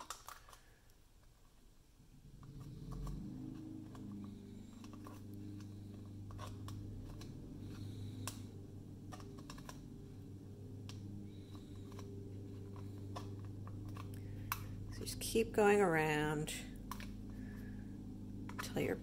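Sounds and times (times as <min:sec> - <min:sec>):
low hum: 0:01.8 - 0:19.0.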